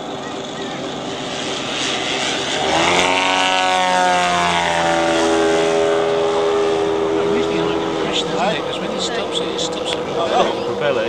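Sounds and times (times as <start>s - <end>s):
model plane engine and propeller: 0.0s - 11.0s.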